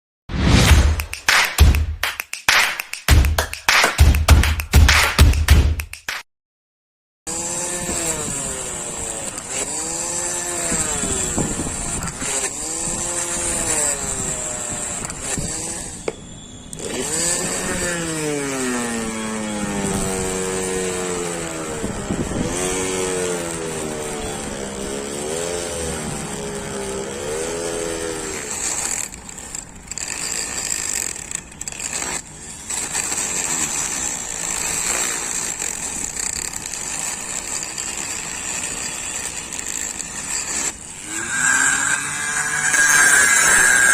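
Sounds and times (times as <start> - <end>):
motor running at varying speed: 7.3 - 43.9.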